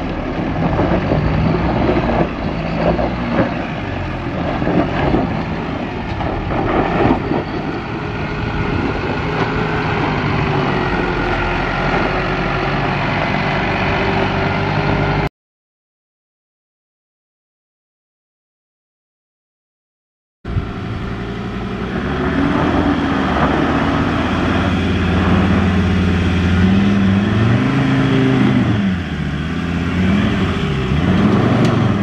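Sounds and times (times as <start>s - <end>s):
diesel truck engine pulling uphill: 0.0s - 15.3s, 20.5s - 32.0s.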